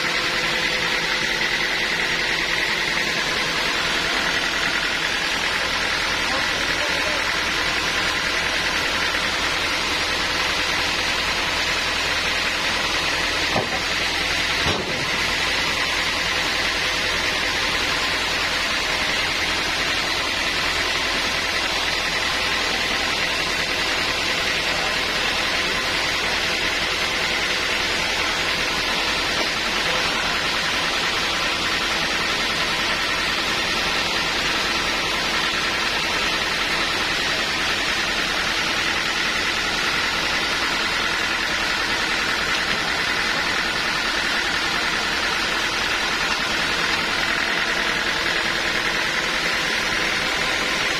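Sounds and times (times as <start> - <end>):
sawmill machine hum and hiss: 0.0 - 50.9.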